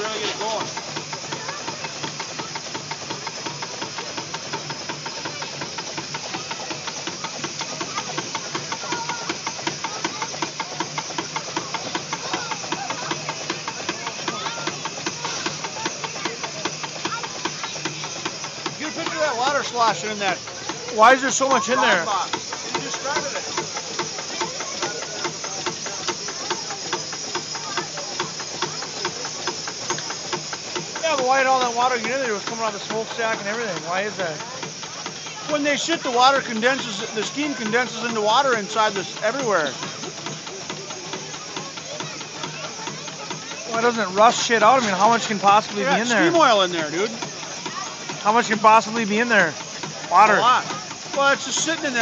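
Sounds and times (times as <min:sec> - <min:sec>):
steady hiss of steam: 0:00.0 - 0:52.0
steam engine exhaust chuffs: 0:00.0 - 0:52.0.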